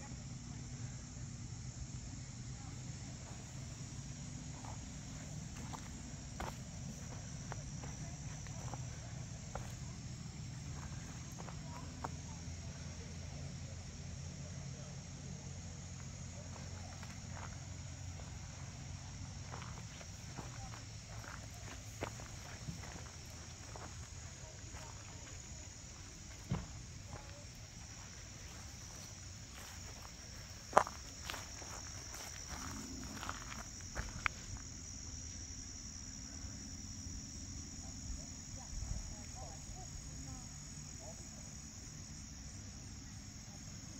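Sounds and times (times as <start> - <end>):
insects humming: 0.0 - 43.9.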